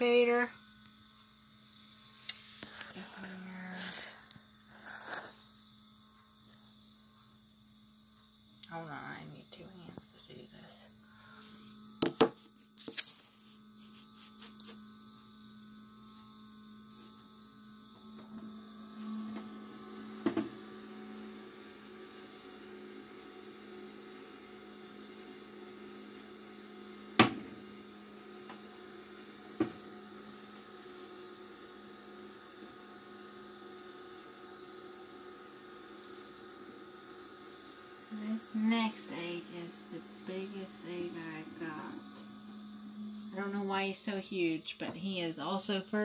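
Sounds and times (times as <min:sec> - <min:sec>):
incubator fan humming: 0:00.0 - 0:46.0.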